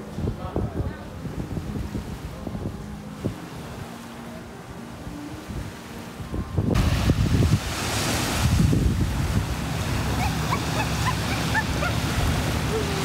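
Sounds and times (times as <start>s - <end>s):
wind buffeting microphone: 0.0s - 13.0s
surf washing onto beach: 1.1s - 13.0s.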